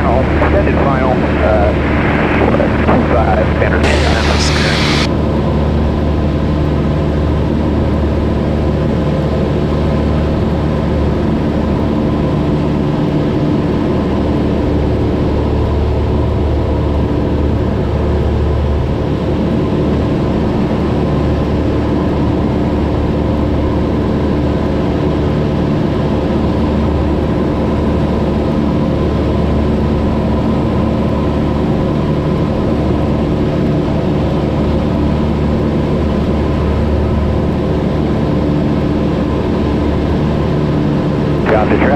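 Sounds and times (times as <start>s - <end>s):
propeller plane engine droning: 0.0s - 41.9s.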